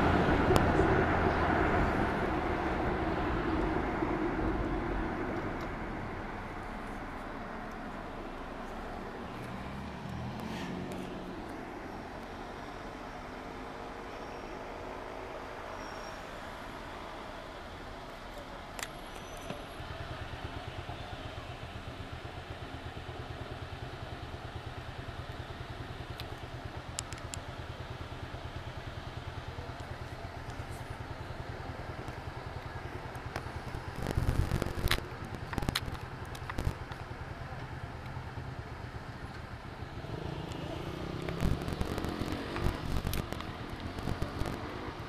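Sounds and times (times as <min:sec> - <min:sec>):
traffic and engine rumble: 0:00.0 - 0:45.0.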